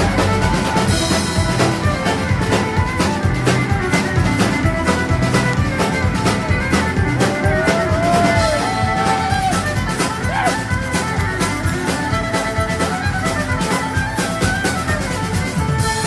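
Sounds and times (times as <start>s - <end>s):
music with strings brass and drums: 0.0s - 16.0s.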